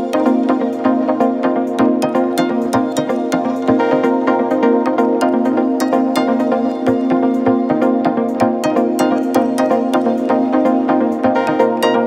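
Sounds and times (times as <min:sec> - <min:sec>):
electronic music with synth chords: 0:00.0 - 0:12.0.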